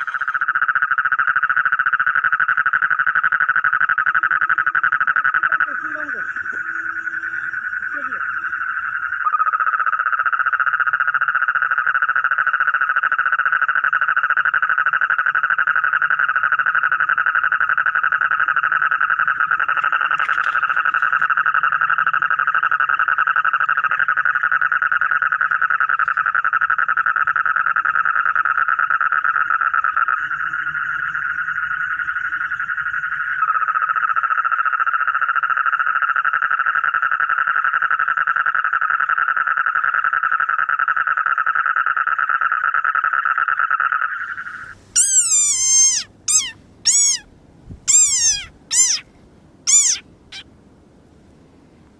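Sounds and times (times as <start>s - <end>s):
frogs trilling: 0.0s - 50.5s.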